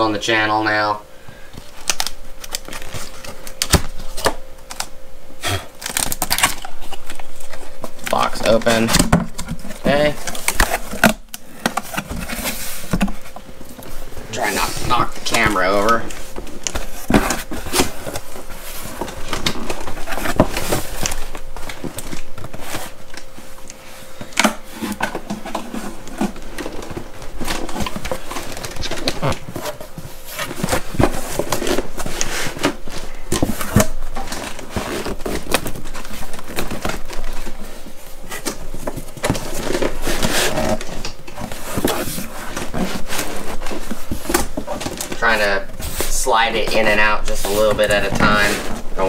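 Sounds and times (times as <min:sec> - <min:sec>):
cardboard packaging rustling: 0:01.4 - 0:49.0.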